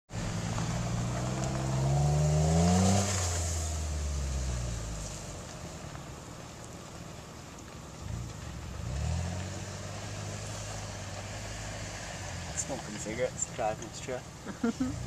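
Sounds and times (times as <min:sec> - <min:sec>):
off-road vehicle engine revving: 0:00.1 - 0:05.5, 0:08.0 - 0:15.0.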